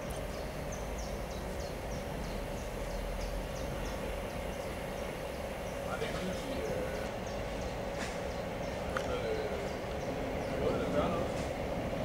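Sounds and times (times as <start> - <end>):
diesel locomotive idling: 0.0 - 12.0.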